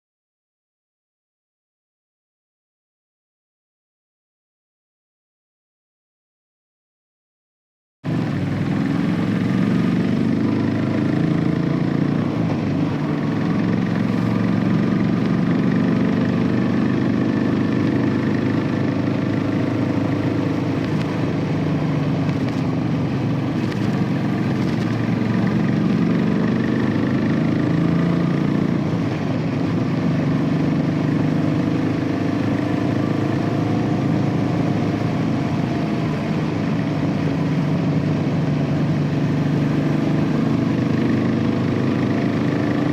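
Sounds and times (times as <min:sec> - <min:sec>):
motorcycle engine running: 0:08.1 - 0:42.9.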